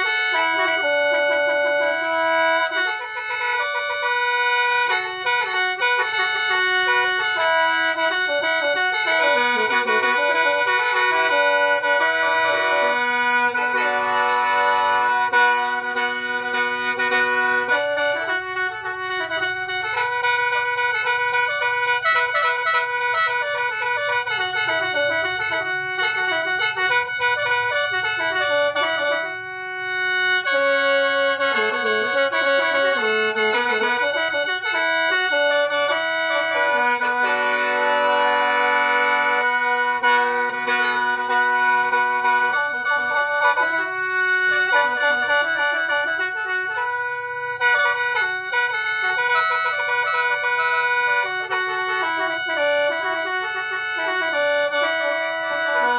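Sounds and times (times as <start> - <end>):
held drone notes: 0.0 - 55.9.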